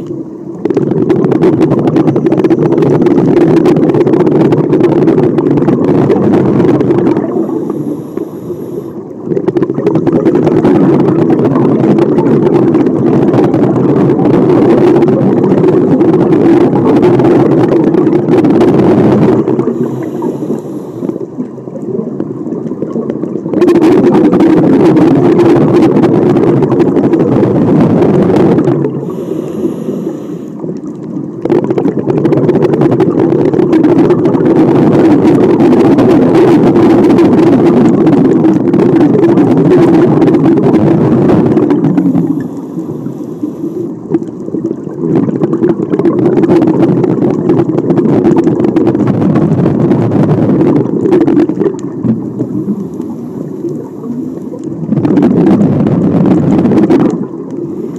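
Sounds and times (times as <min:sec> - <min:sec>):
underwater exhaled bubbles: 0:00.0 - 0:57.9.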